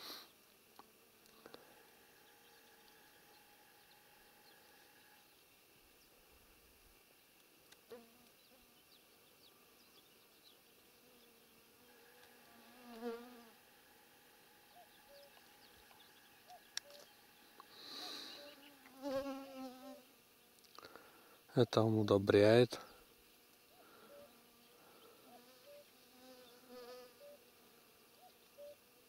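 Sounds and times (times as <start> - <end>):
flying insect buzzing: 0.0 - 21.5, 22.9 - 29.0.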